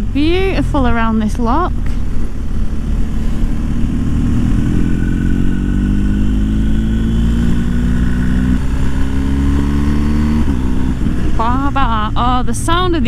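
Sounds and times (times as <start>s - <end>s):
motorcycle engine under power: 0.0s - 13.0s.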